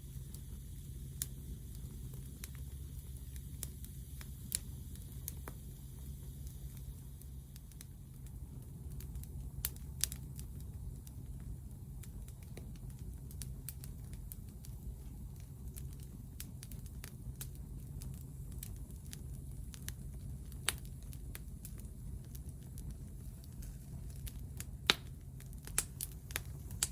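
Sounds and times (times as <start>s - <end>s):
low steady rumble: 0.0s - 26.9s
wood fire crackling: 0.0s - 26.9s.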